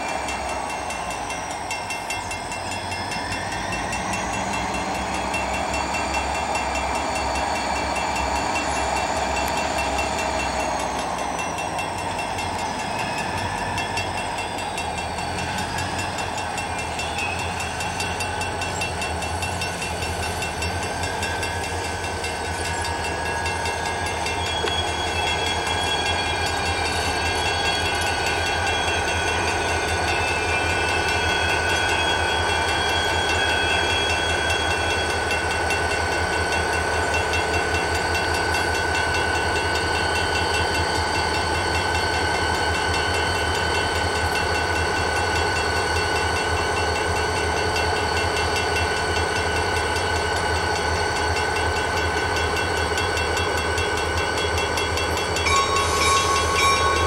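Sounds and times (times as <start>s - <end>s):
diesel locomotive engines throbbing: 0.0s - 57.0s.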